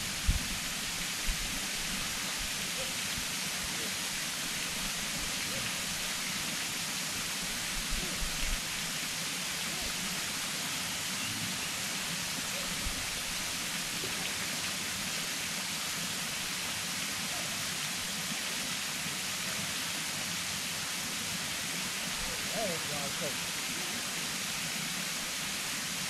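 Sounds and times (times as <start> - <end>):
rushing water hiss: 0.0 - 26.0.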